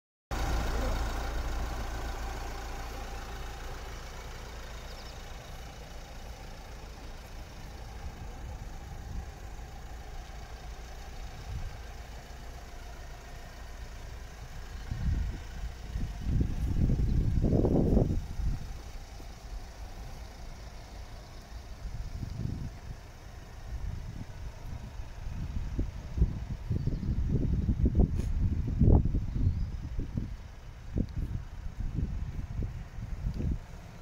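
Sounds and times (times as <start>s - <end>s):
diesel van engine idling: 0.3s - 34.0s.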